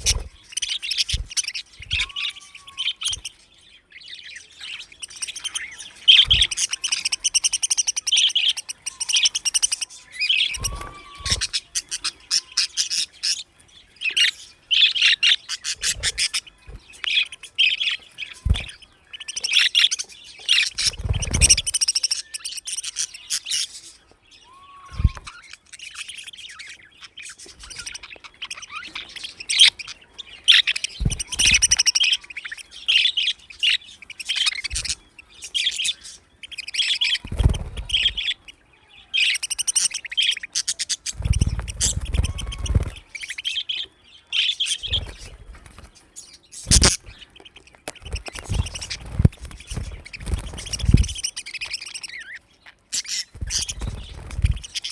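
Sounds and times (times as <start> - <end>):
budgerigars chirping: 0.0 - 54.9.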